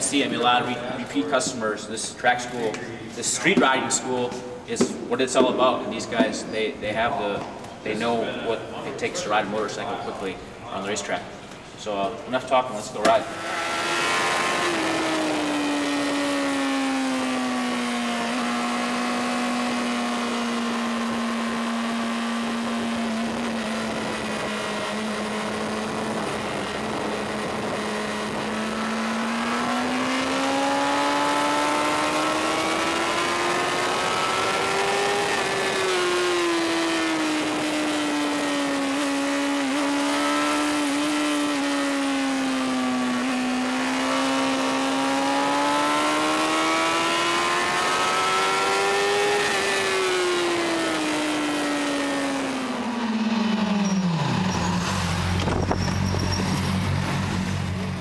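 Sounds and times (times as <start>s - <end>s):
motorcycle engine at high revs: 0.0s - 11.9s, 12.9s - 58.0s.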